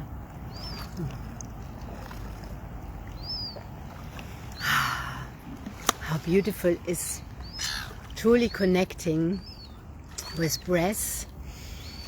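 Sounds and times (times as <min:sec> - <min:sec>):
birds chirping: 0:00.2 - 0:01.5, 0:02.4 - 0:12.0.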